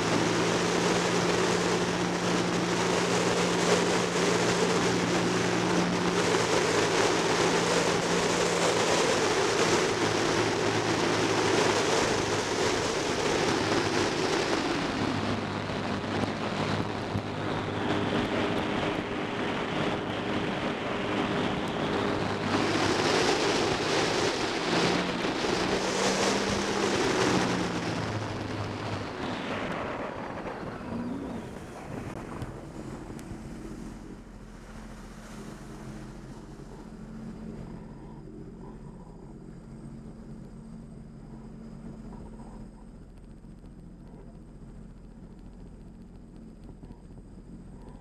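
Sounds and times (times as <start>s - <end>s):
watercraft engine drone: 0.0s - 48.0s
wind on microphone: 0.0s - 48.0s.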